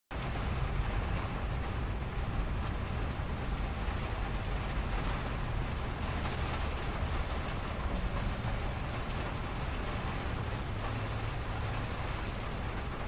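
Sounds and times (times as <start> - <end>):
freeway traffic rumble: 0.1 - 13.0
rain on a window: 0.1 - 13.0.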